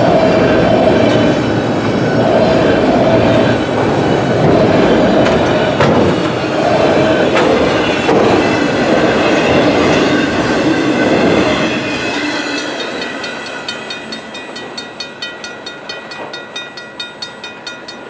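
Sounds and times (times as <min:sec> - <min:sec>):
freight train rumbling past: 0:00.0 - 0:18.0
wheels clicking on rail: 0:00.0 - 0:18.0.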